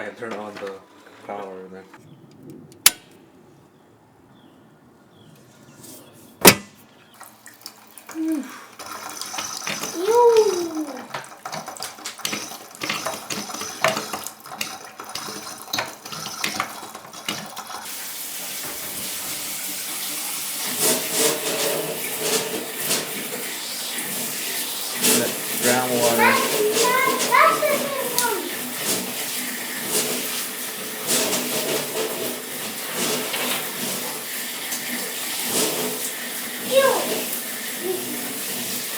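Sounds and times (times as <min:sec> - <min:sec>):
tap water splashing and running: 0:06.4 - 0:38.9.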